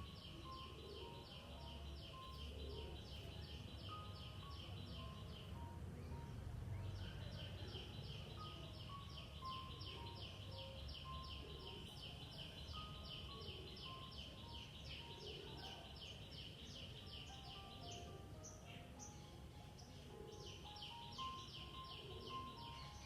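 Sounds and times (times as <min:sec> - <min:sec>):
high chirping bird call: 0:00.0 - 0:23.0.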